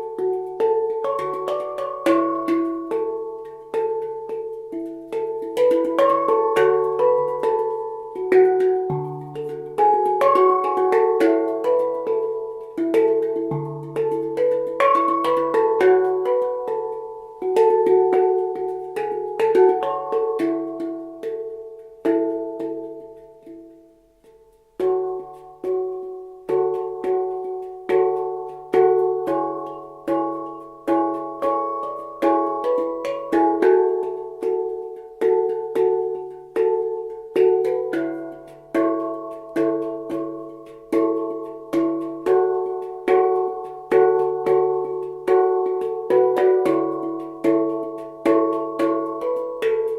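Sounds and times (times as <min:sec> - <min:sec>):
handpan notes ringing: 0:00.0 - 0:49.9.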